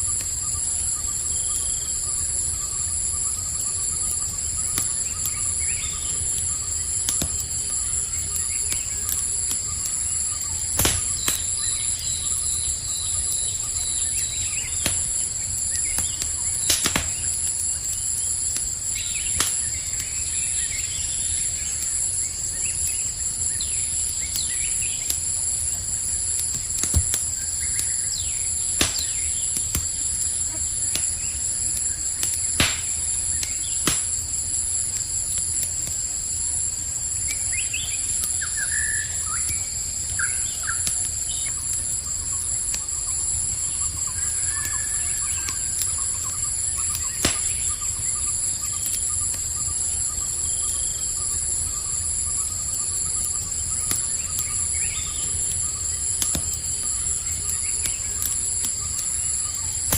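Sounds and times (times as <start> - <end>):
campfire crackling: 0.0 - 59.9
cricket chorus: 0.0 - 59.9
sharp pops from fire: 0.0 - 59.9.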